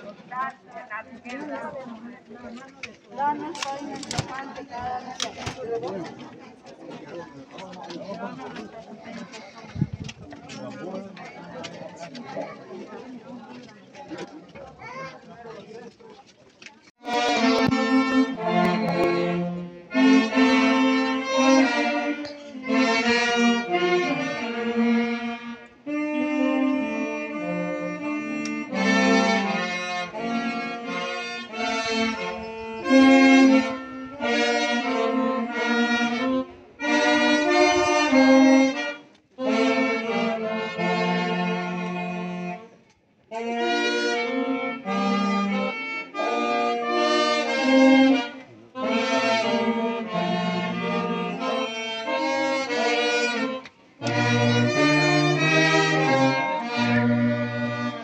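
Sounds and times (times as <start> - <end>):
wind band of saxophones and brass: 0.0 - 15.8, 16.9 - 58.0.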